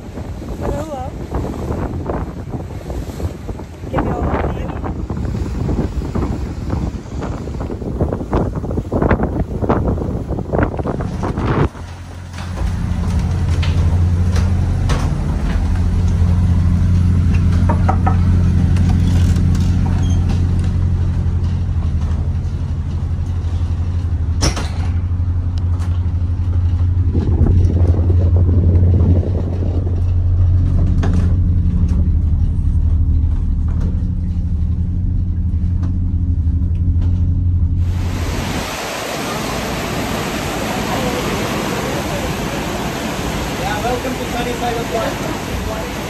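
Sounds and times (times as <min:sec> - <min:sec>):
boat engine droning: 0:00.0 - 0:46.0.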